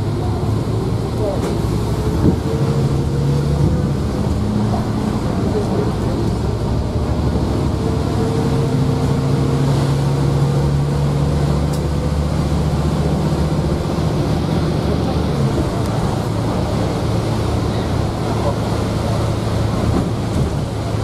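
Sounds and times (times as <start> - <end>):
diesel engine drone: 0.0 - 21.0
road noise: 0.0 - 21.0.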